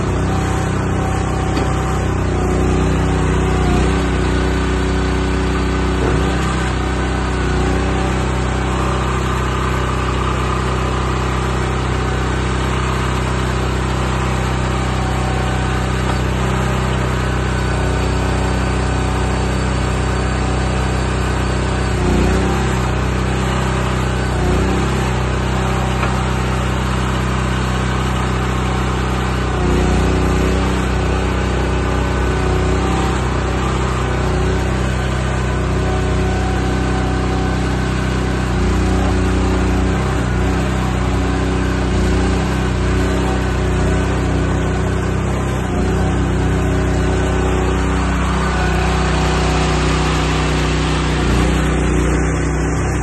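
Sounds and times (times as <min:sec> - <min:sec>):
tracked carrier engine running: 0:00.0 - 0:53.0.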